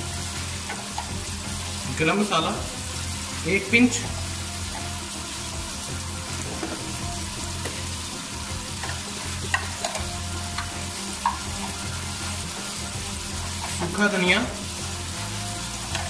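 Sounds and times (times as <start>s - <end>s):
vegetables sizzling in oil: 0.0s - 16.0s
oil popping: 0.3s - 16.0s.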